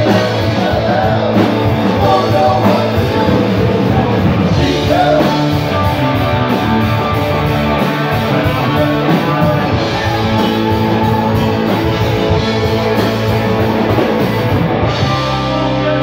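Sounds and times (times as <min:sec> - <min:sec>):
bass guitar: 0:00.0 - 0:16.0
drum kit: 0:00.0 - 0:16.0
electric guitars: 0:00.0 - 0:16.0.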